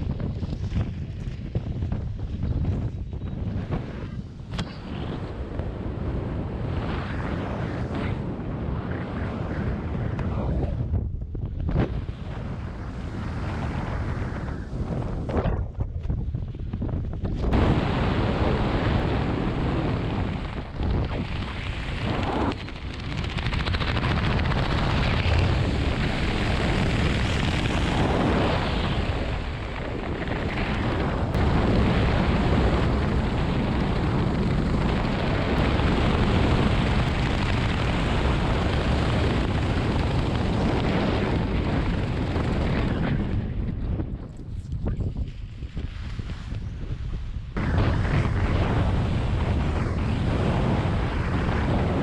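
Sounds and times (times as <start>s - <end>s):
heavy wind buffeting microphone: 0.0s - 52.0s.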